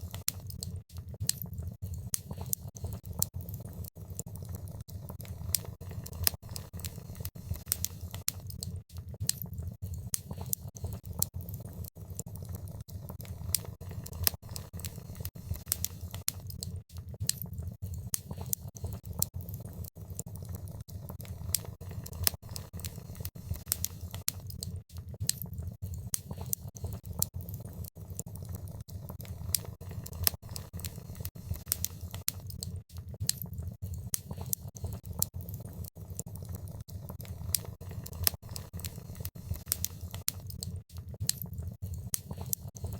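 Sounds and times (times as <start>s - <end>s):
low rumble of fire: 0.0s - 42.9s
wood fire crackling: 0.0s - 42.9s.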